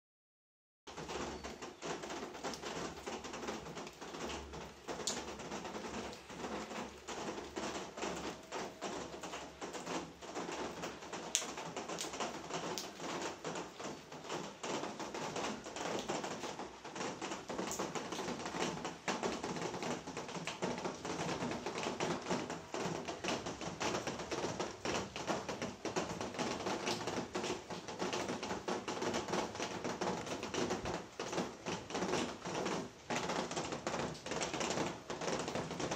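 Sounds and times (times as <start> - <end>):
rain pattering: 0.9 - 35.9.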